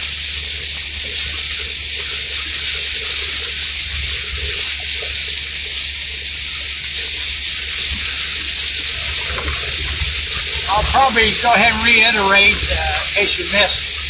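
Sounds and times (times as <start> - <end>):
heavy rain on a vehicle: 0.0 - 14.0.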